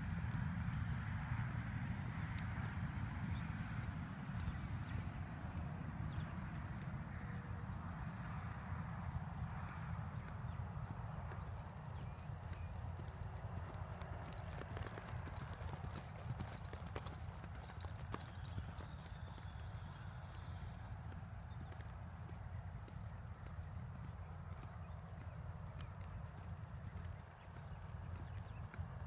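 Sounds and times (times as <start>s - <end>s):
horse hoofbeats on dirt: 0.0s - 29.0s.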